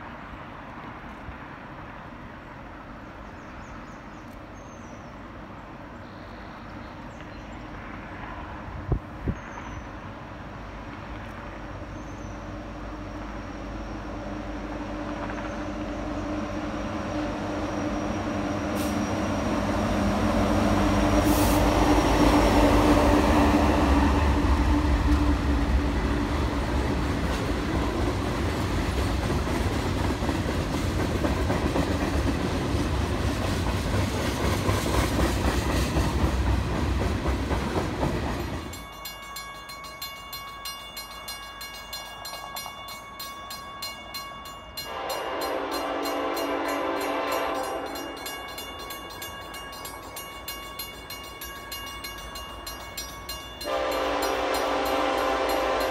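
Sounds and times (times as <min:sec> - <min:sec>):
diesel locomotives passing: 0:00.0 - 0:55.9.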